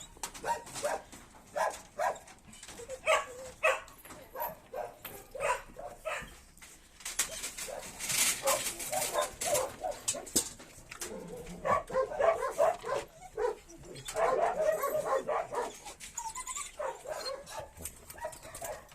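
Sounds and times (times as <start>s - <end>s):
dogs barking and whimpering: 0.0s - 6.5s, 7.2s - 18.9s.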